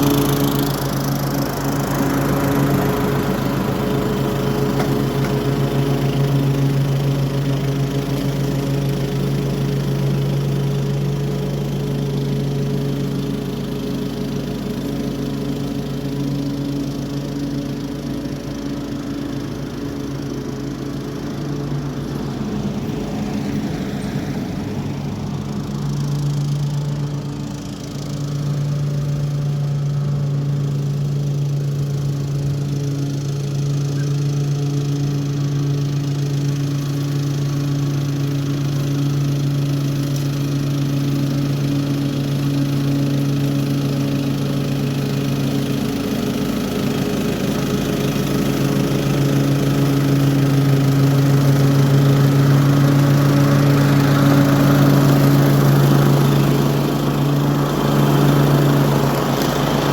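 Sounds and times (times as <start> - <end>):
lawn mower running: 0.0 - 59.9.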